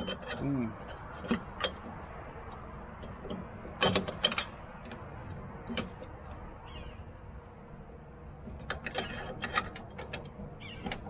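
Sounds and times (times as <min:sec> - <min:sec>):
metallic clicks and knocks: 0:00.0 - 0:11.0.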